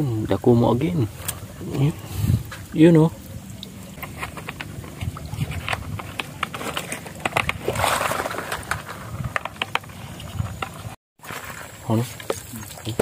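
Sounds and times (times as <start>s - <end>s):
water splashes: 0.0s - 9.4s, 10.0s - 13.0s
leaves rustling: 0.4s - 13.0s
footsteps wading through water and mud: 0.9s - 13.0s.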